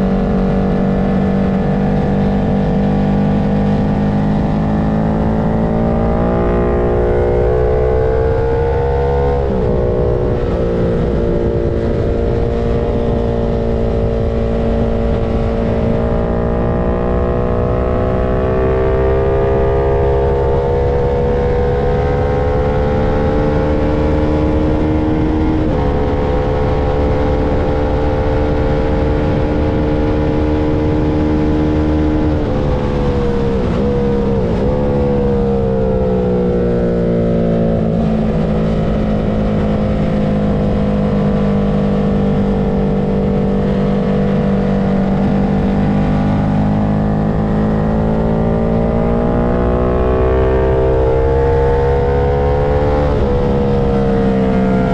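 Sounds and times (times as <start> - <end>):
car engine at high revs: 0.0 - 54.9
steady rushing noise: 7.2 - 54.9.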